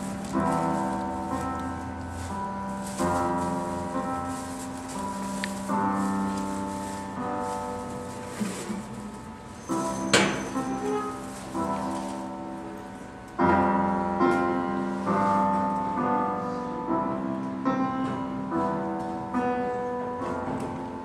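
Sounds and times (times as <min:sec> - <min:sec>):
electronic piano chords: 0:00.0 - 0:21.0.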